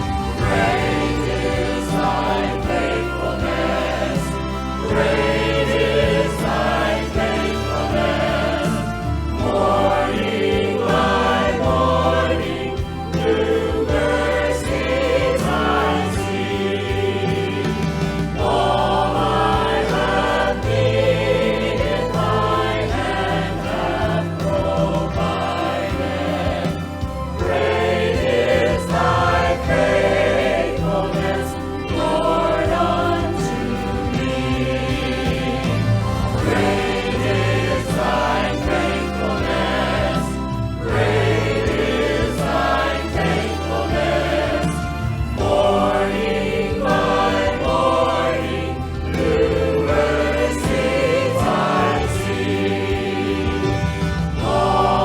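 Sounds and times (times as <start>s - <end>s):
group of voices singing: 0.0s - 55.0s
instrumental accompaniment: 0.0s - 55.0s.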